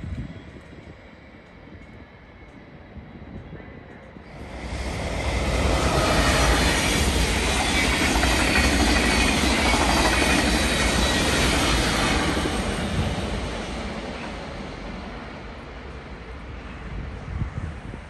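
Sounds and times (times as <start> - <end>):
train wheel and rail noise: 0.0 - 18.0.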